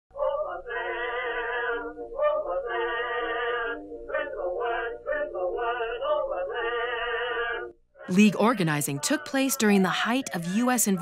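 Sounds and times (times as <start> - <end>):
person singing with vibrato: 0.1 - 11.0.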